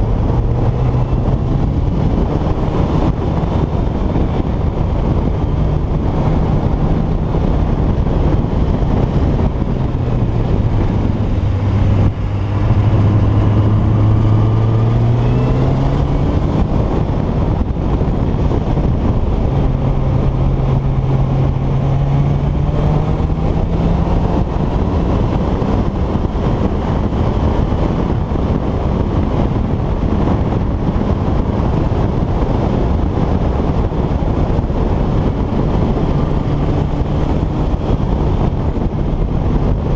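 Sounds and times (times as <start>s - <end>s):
vehicle engine accelerating: 0.0s - 39.9s
wind and road noise: 0.0s - 39.9s.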